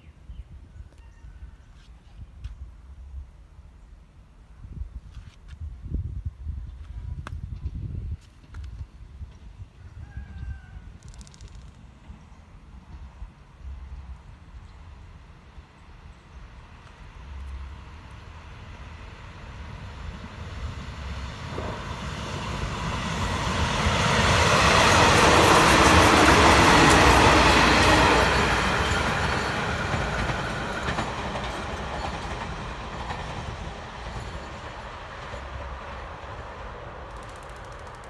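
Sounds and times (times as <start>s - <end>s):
train wheels on rails: 6.6s - 38.0s.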